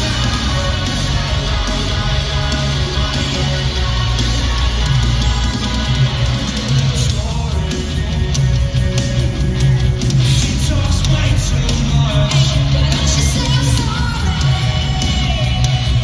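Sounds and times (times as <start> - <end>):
rock band playing: 0.0 - 16.0
singing: 0.0 - 16.0.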